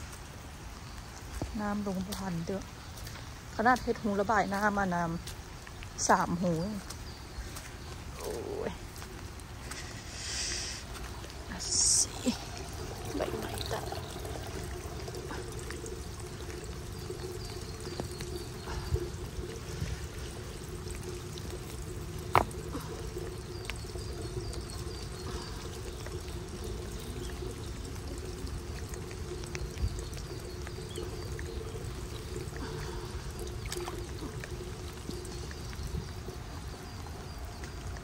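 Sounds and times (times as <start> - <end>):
rainwater pouring from drain pipes: 0.0 - 38.0.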